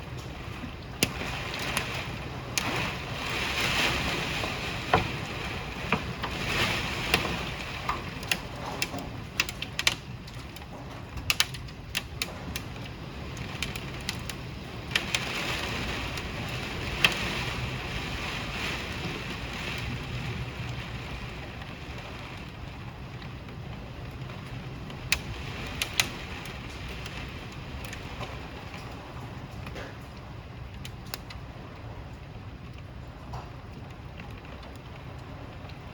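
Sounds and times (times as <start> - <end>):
heavy rain and hail hissing: 0.0 - 10.5, 11.4 - 31.0.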